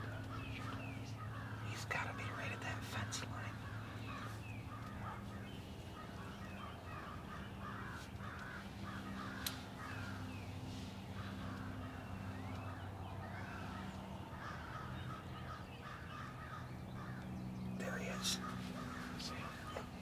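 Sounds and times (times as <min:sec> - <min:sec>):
crows cawing: 0:00.0 - 0:20.0
steady low hum: 0:00.0 - 0:20.0.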